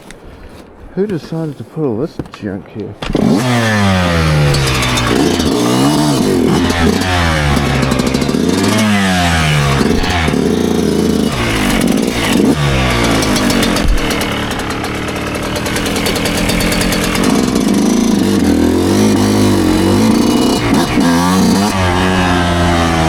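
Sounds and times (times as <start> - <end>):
dirt bike engine revving: 3.0 - 23.0.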